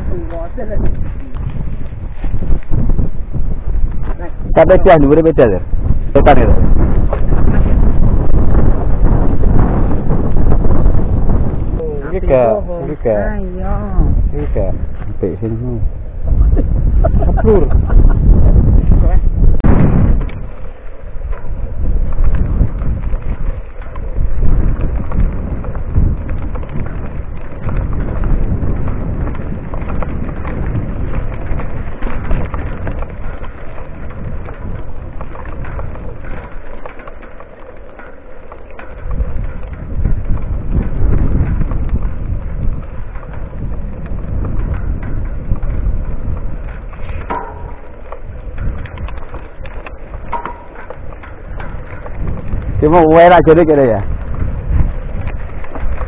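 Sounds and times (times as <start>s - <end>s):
bike rolling on dirt trail: 0.0s - 56.0s
wind buffeting microphone: 0.0s - 56.0s.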